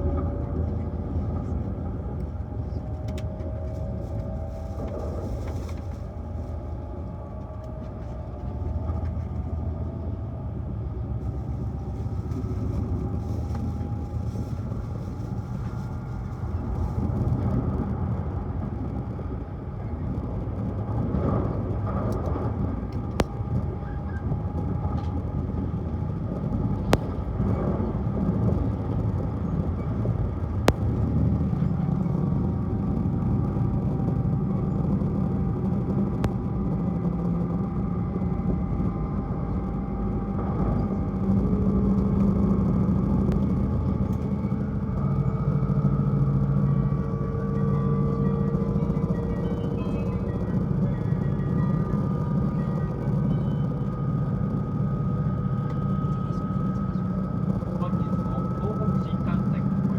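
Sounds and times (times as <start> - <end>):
faint whine sliding in pitch: 0.0 - 59.9
high-speed train rumbling: 0.0 - 59.9.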